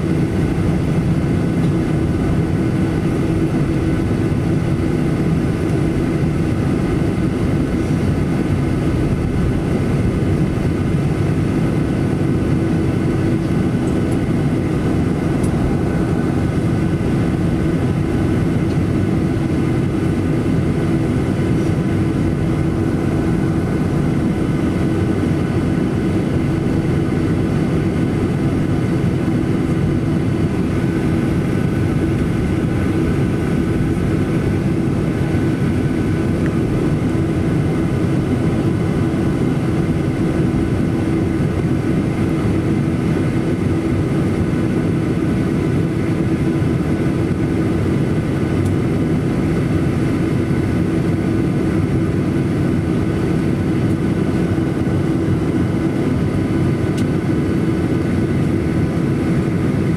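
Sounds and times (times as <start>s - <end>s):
aircraft cabin engine rumble: 0.0s - 59.9s.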